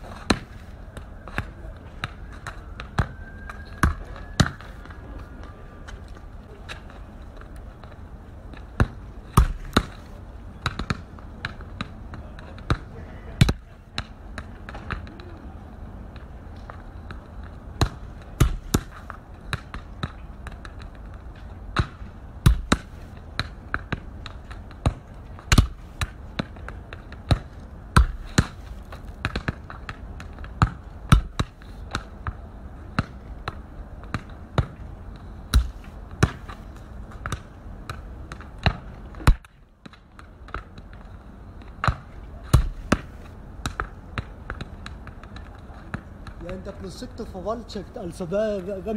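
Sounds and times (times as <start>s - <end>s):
football kicked and bouncing on pavement: 0.0s - 4.9s, 6.1s - 15.4s, 16.1s - 47.0s
steady background hiss: 0.0s - 48.9s.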